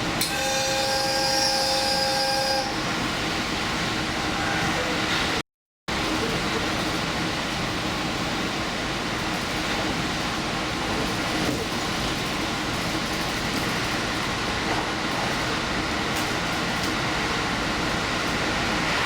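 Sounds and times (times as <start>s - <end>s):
train engine and wheels rumbling: 1.8s - 19.0s.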